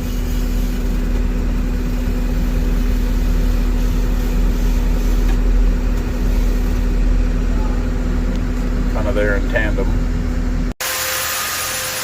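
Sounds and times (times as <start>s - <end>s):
diesel engine running at low speed: 0.0s - 10.8s.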